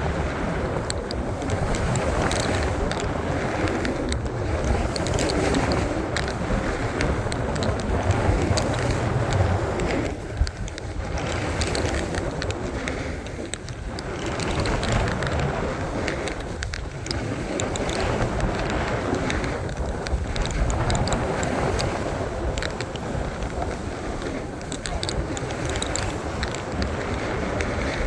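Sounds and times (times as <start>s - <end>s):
snowboard scraping over snow: 0.0s - 28.0s
wind on microphone: 0.0s - 28.0s.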